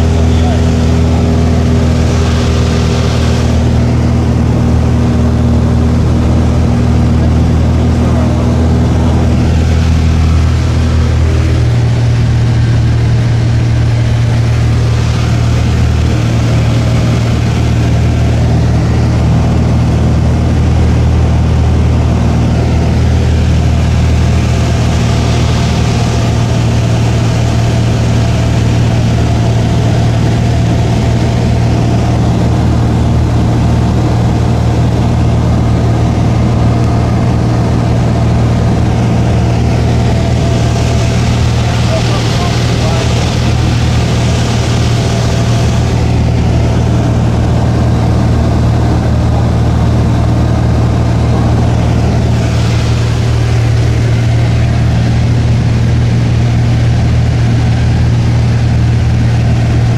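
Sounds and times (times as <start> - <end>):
airplane engine droning in cabin: 0.0 - 59.9.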